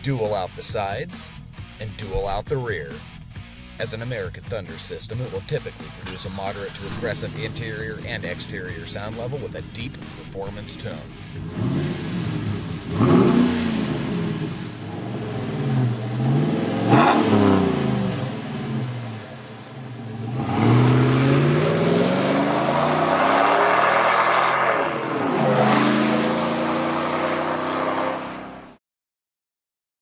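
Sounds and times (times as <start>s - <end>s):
truck engine revving: 3.0s - 28.8s.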